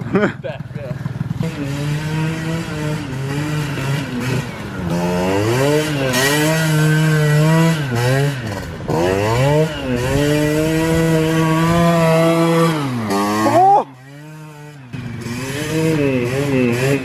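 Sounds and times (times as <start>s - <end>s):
moped engine revving: 0.0s - 17.0s.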